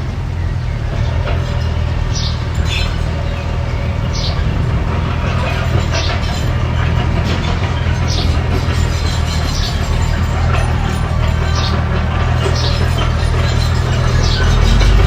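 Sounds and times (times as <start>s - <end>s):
small bulldozer engine droning: 0.0s - 15.0s.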